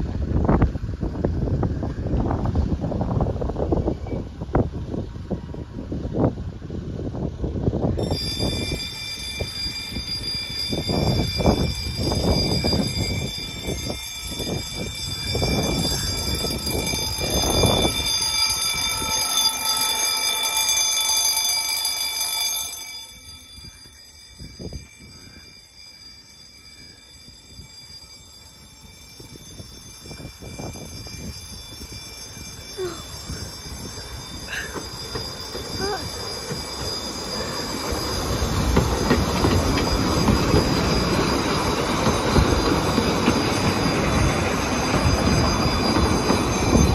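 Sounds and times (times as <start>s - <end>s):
wind gusting on microphone: 0.0s - 19.2s, 27.2s - 46.9s
electric alarm bell ringing: 8.0s - 46.9s.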